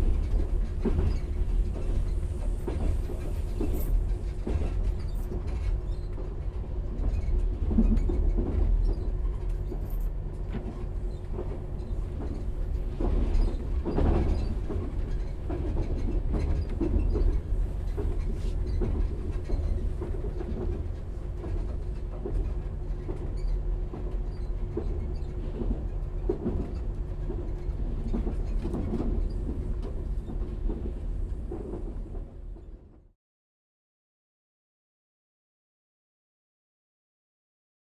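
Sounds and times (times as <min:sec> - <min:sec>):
train rumbling: 0:00.0 - 0:33.2.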